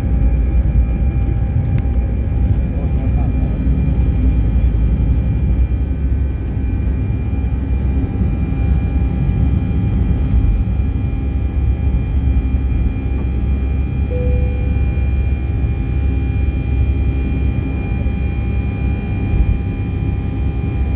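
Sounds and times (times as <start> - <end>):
jet engines heard from cabin: 0.0 - 20.9.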